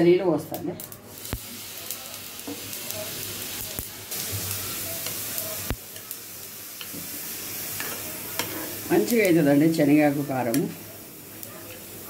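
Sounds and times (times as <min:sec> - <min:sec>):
seeds sizzling in a hot pan: 0:00.8 - 0:12.0.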